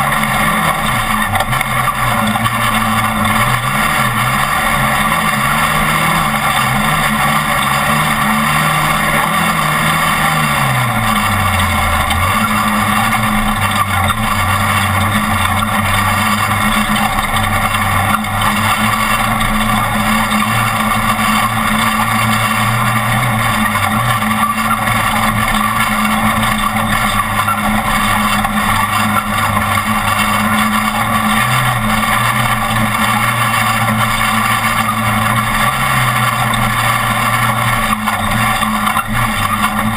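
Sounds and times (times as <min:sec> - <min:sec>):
loud road noise: 0:00.0 - 0:39.9
truck engine under load: 0:00.0 - 0:39.9.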